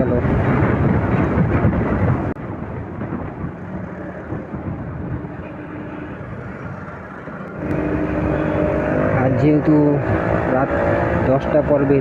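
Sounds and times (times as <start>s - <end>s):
motorcycle engine rumbling: 0.0s - 12.0s
wind buffeting microphone: 0.0s - 12.0s.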